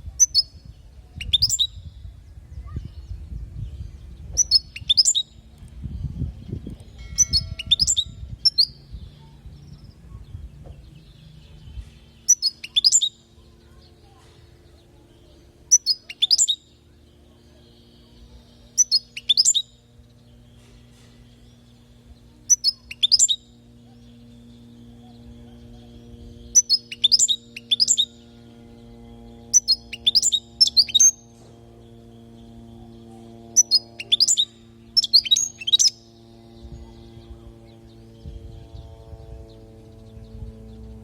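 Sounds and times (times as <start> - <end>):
faint steady hum: 0.0 - 41.0
bird chirping: 0.1 - 41.0.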